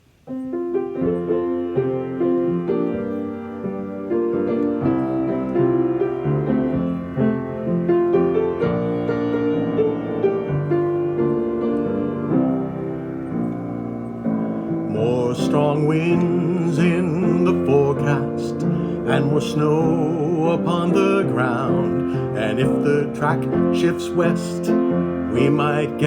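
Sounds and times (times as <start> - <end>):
piano playing chords and melody: 0.0 - 26.0.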